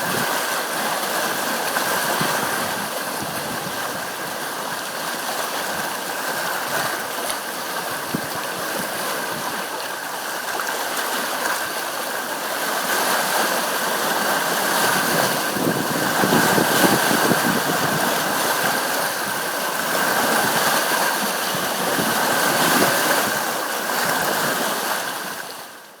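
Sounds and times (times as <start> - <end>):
sea waves washing: 0.0 - 25.5.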